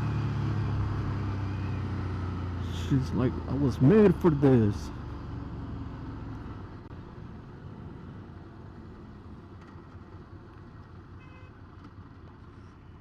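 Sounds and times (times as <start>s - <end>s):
road and wind rumble: 0.0s - 13.0s.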